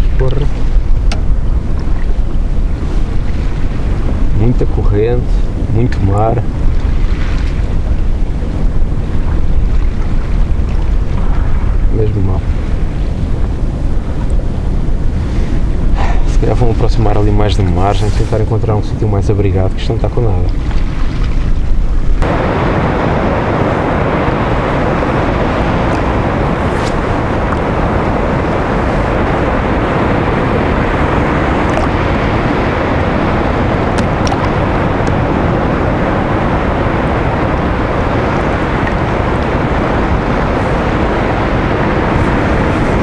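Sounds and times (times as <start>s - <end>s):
choppy sea: 0.0s - 43.0s
wind rushing: 0.0s - 43.0s.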